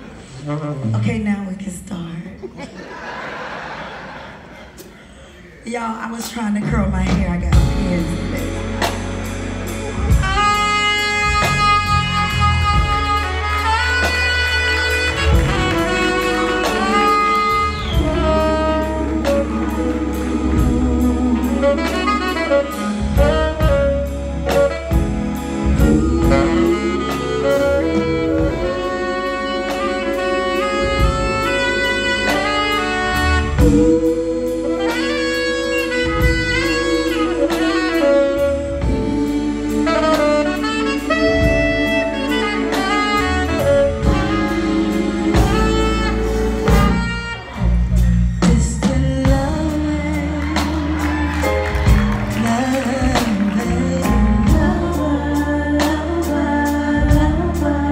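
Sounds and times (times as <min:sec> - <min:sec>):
live band playing: 0:00.0 - 0:57.9
saxophone melody: 0:07.5 - 0:57.9.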